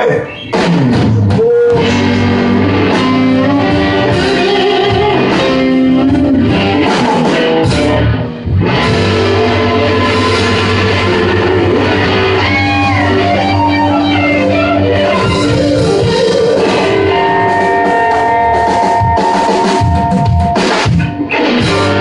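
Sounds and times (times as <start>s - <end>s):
drum kit: 0.0s - 22.0s
electric guitar: 0.0s - 22.0s
live blues rock band: 0.0s - 22.0s.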